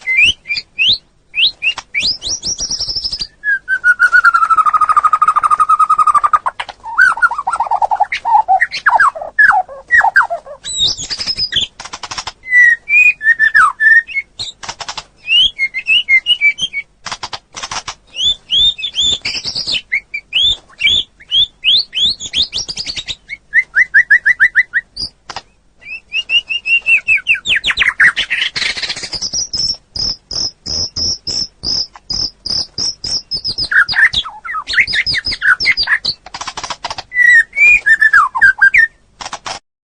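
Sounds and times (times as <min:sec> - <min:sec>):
songbirds singing: 0:00.0 - 0:39.1.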